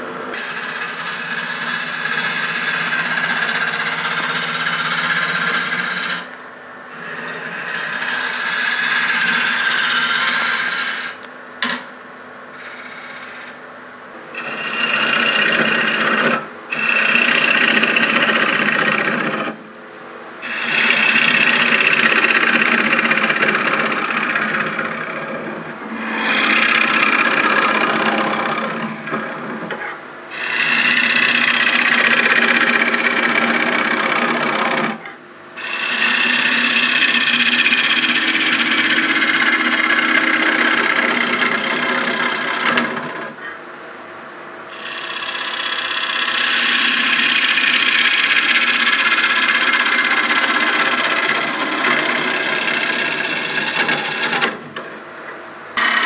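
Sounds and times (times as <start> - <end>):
lathe motor hum: 0.0 - 11.3, 12.6 - 13.6, 14.3 - 19.8, 20.4 - 43.5, 44.6 - 55.0, 55.8 - 56.0
lathe tool scraping wood: 0.0 - 11.3, 12.6 - 13.6, 14.3 - 19.7, 20.4 - 43.6, 44.6 - 54.9, 55.8 - 56.0.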